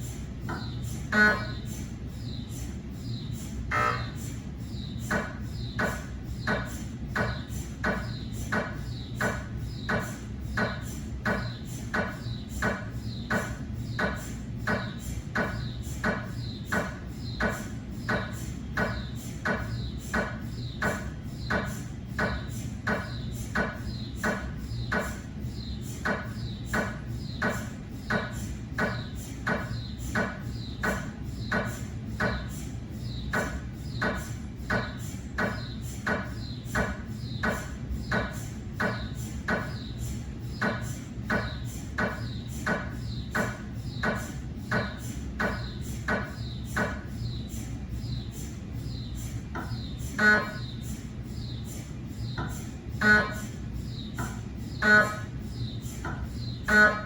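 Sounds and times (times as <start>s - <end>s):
mri scanner knocking: 0.0s - 57.0s.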